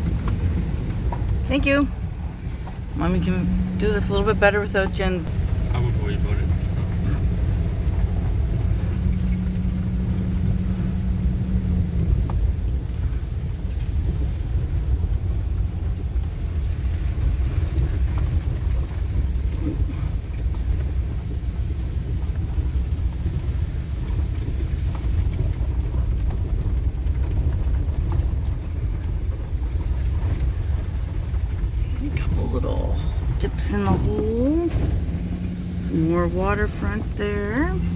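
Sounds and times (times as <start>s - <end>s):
van engine and road rumble: 0.0s - 37.9s.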